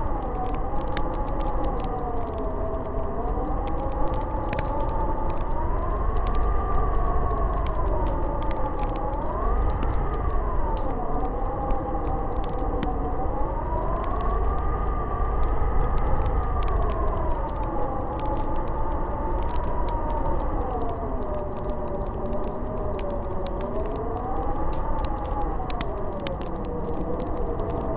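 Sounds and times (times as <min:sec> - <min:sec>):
faint clicks: 0:00.0 - 0:13.2, 0:13.8 - 0:27.9
wind howling: 0:00.0 - 0:27.9.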